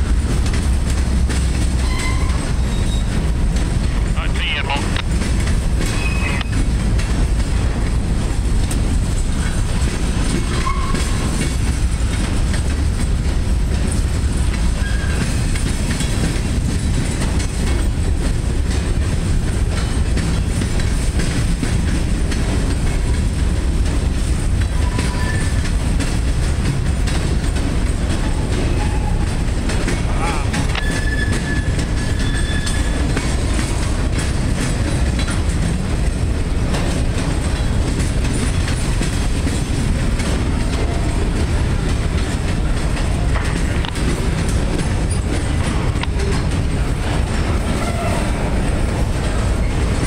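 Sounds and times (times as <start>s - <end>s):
clickety-clack over rail joints: 0.0s - 50.0s
train wheels rumbling on rails: 0.0s - 50.0s.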